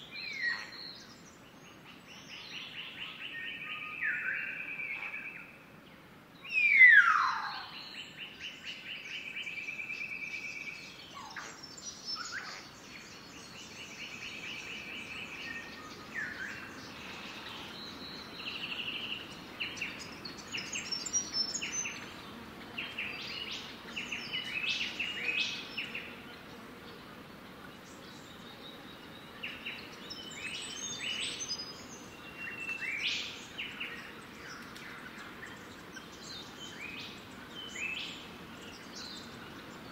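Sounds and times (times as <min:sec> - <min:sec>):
faint outdoor background: 0:00.0 - 0:39.9.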